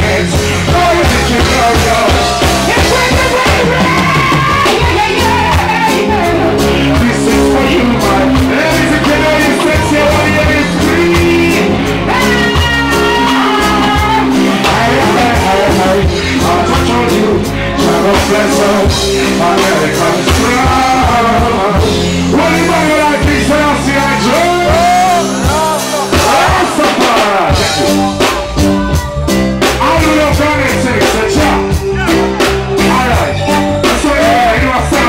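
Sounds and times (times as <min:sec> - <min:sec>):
man singing: 0:00.0 - 0:35.0
reggae band playing: 0:00.0 - 0:35.0.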